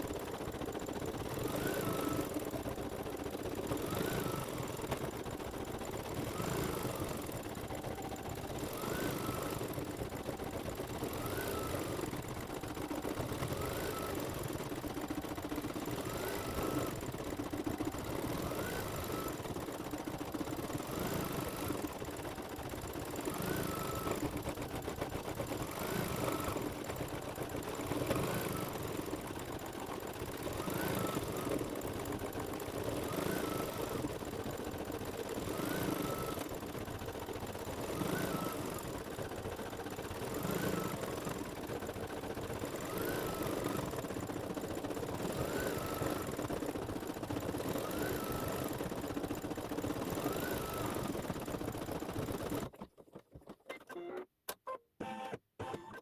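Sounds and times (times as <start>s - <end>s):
embroidery machine stitching: 0.0s - 53.9s.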